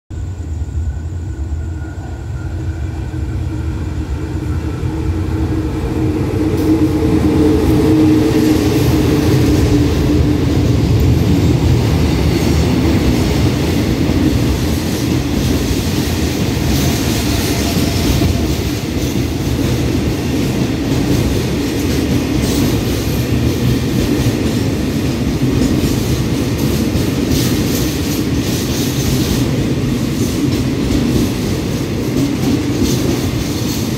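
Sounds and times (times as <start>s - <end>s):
diesel locomotive passing: 0.2s - 33.9s.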